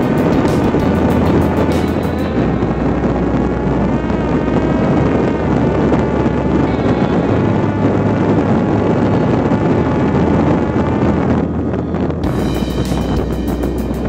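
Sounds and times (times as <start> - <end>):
drone motor and propeller whine: 0.0 - 14.0
wind rush on microphone: 0.0 - 14.0.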